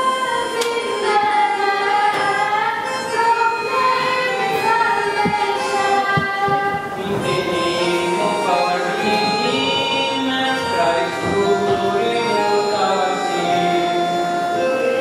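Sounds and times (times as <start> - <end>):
children's choir singing a hymn: 0.0 - 15.0.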